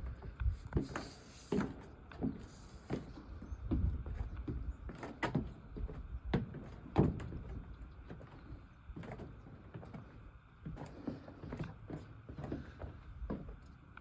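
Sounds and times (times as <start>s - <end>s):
footsteps on wooden planks: 0.0s - 13.8s.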